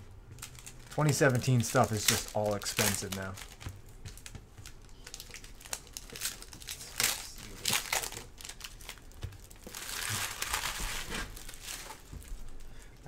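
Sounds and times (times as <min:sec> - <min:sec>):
foil wrappers crinkling: 0:00.3 - 0:13.0.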